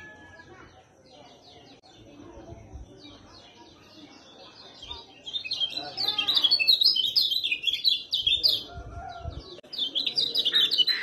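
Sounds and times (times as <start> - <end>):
bird chirping and twittering: 0.0 - 11.0.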